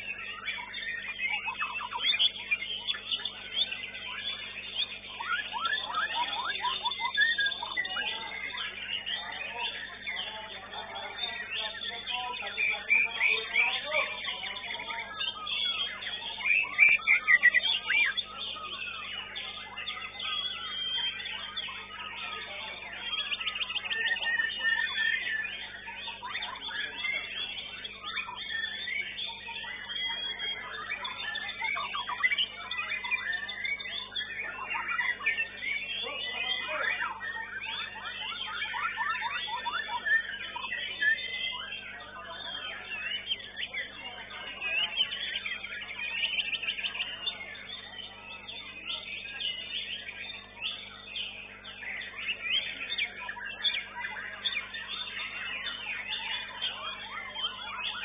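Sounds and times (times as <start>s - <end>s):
birds singing whistles and trills: 0.0s - 58.0s.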